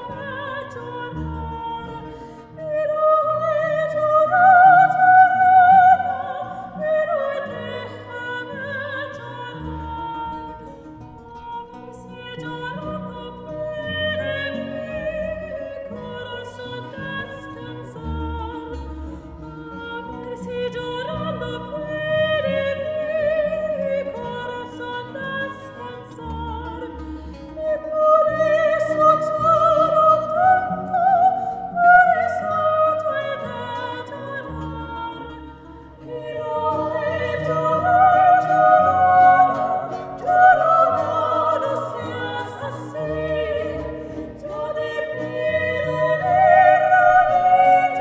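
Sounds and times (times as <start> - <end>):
plucked and bowed strings: 0.0 - 48.0
women singing operatically: 0.0 - 48.0.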